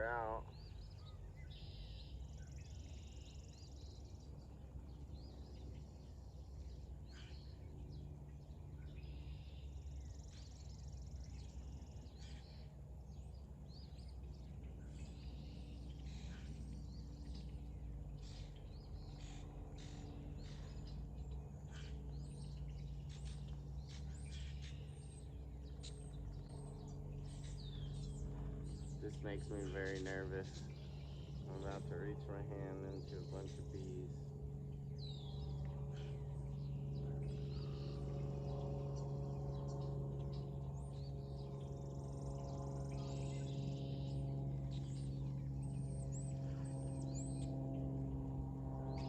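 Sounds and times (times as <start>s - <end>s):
songbirds chirping: 0.0s - 49.0s
steady low hum: 0.0s - 49.0s.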